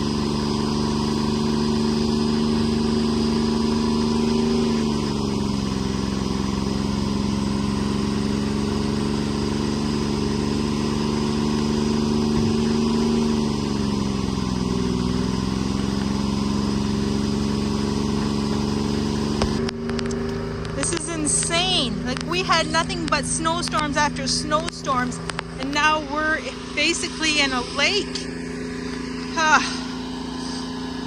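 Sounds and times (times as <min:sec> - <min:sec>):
forwarder engine running: 0:00.0 - 0:31.0.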